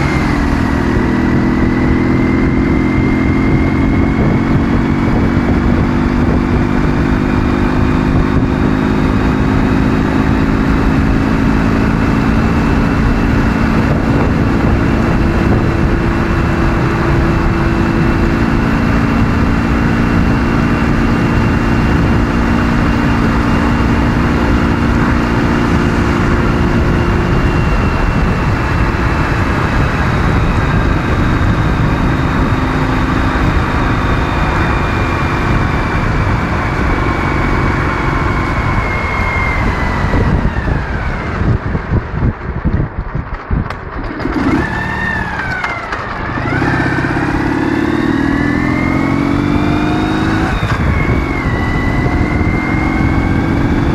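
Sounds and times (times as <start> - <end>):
motorcycle engine cruising: 0.0 - 53.9
wind and road noise: 0.0 - 53.9.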